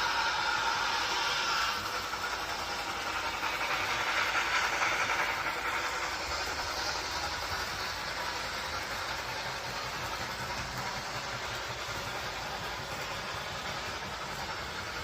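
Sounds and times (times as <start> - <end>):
train rushing by: 0.0 - 15.0.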